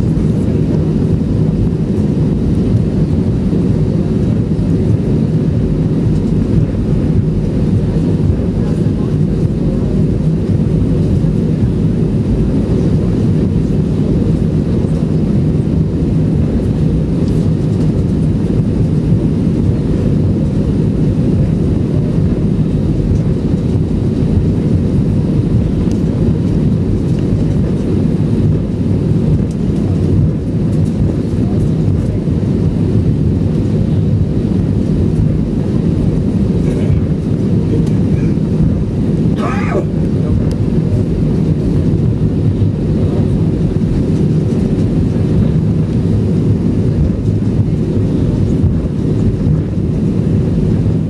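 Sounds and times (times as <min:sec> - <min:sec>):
vehicle engine rumble and hum: 0:00.0 - 0:51.0.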